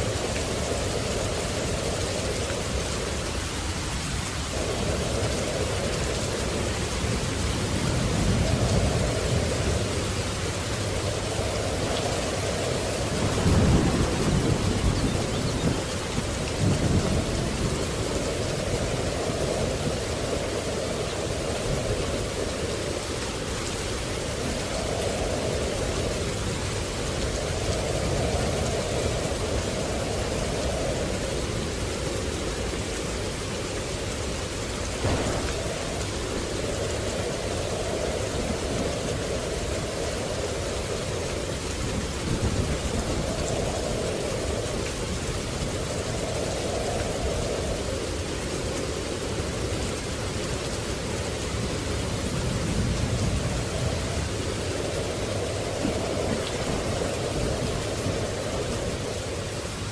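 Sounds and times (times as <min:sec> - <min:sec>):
heavy rain: 0:00.0 - 0:59.9
thunder rumbling: 0:00.0 - 0:59.9.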